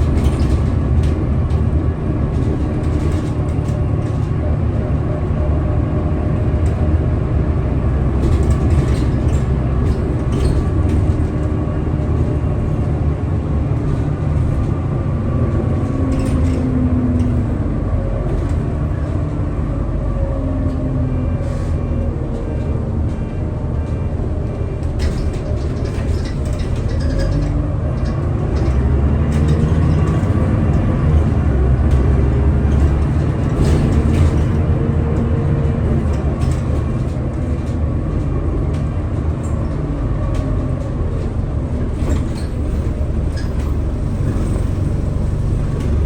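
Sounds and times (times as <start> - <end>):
bus engine pulling hard: 0.0 - 46.0.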